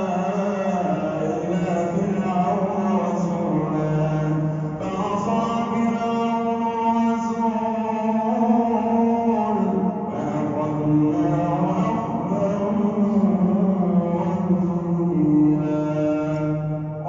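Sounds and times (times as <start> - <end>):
man chanting recitation: 0.0 - 17.0.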